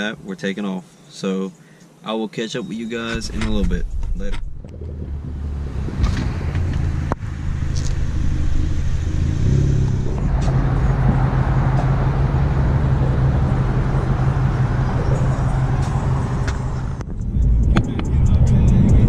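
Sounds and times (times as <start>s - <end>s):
road and wind noise: 2.6s - 19.0s
car engine accelerating: 3.1s - 19.0s.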